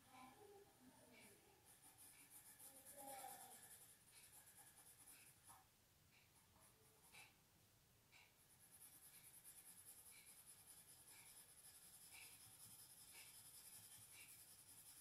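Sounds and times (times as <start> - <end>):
pencil scratching on paper: 1.0 - 7.4, 8.2 - 15.0.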